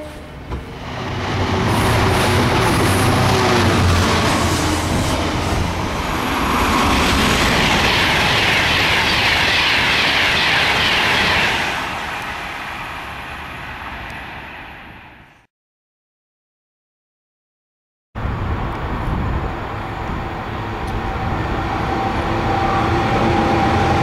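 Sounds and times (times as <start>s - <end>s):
wheels rushing on rail: 0.0s - 15.5s, 18.2s - 24.0s.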